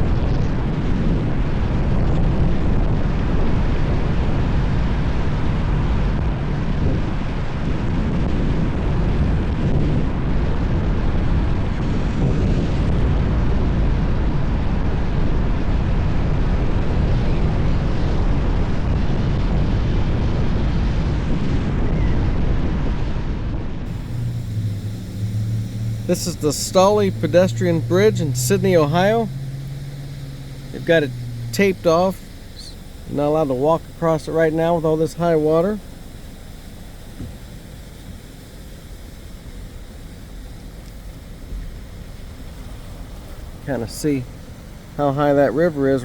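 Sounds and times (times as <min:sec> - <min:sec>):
vehicle road and wind noise: 0:00.0 - 0:46.0.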